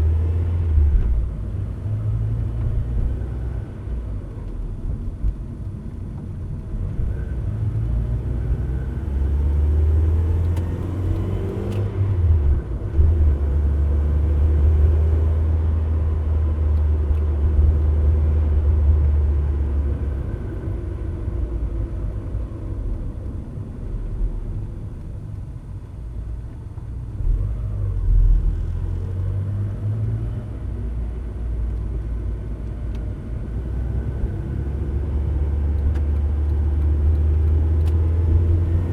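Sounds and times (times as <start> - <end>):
car engine drone: 0.0 - 38.9
faint engine whine: 0.0 - 38.9.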